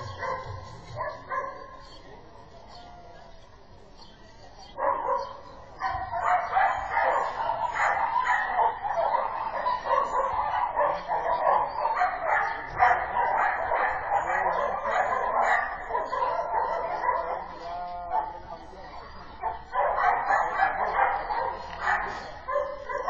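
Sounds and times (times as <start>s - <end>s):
dog barking: 0.0s - 1.9s, 4.8s - 18.6s, 19.3s - 23.0s.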